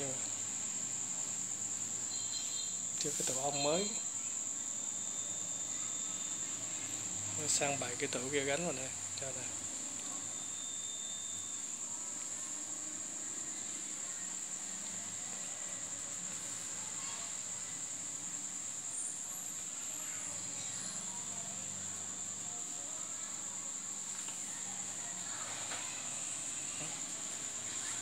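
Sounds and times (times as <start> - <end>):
cricket trilling: 0.0 - 28.0.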